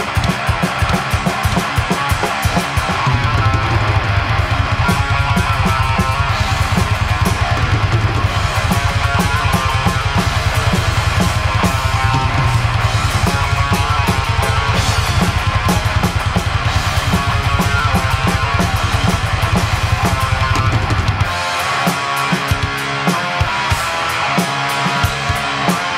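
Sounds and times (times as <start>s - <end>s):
heavy metal music: 0.0s - 25.9s
rapid kick drum strokes: 0.0s - 25.9s.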